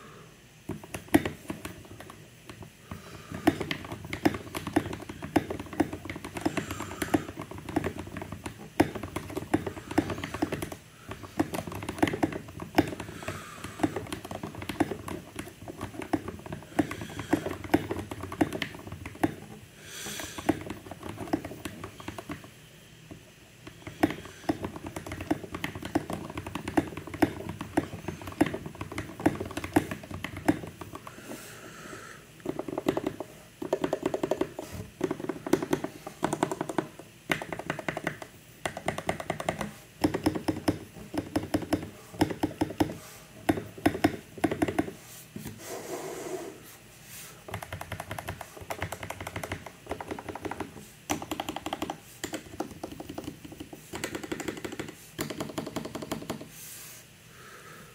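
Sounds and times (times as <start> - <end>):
mechanical keyboard typing: 0.7 - 2.7, 3.3 - 22.5, 23.1 - 31.2, 32.4 - 45.0, 47.5 - 56.5.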